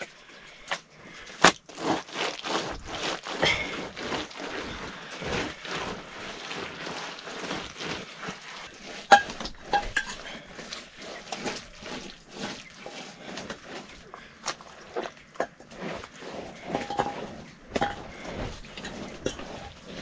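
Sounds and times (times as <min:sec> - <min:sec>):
hand smearing wet mud plaster: 0:00.0 - 0:20.0.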